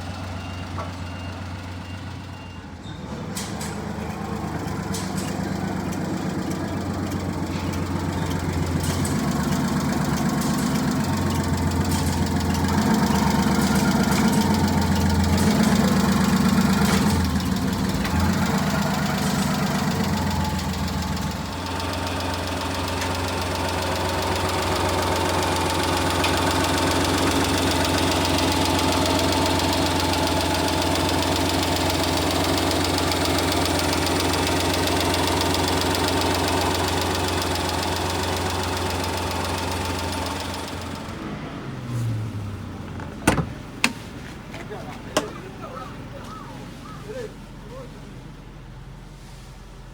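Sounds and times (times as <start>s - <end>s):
small truck engine running: 0.0s - 49.9s.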